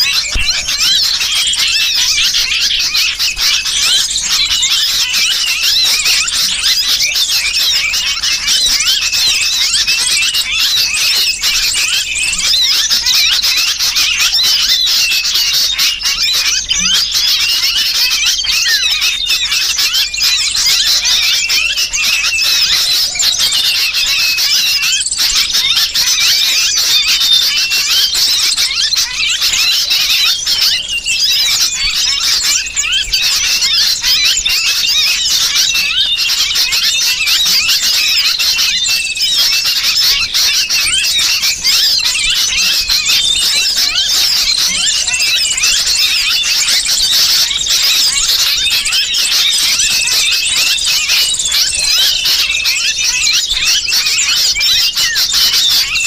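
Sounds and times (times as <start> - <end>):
bird distress calls: 0.0 - 56.0
chorus of small birds: 0.0 - 56.0.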